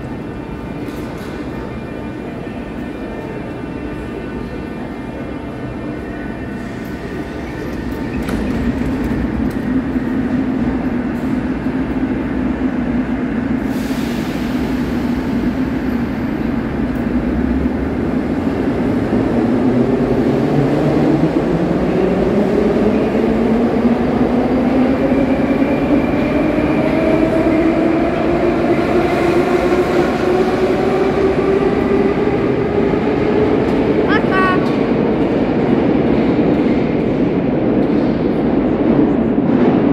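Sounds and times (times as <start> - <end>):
metro train rumble: 0.0 - 39.9.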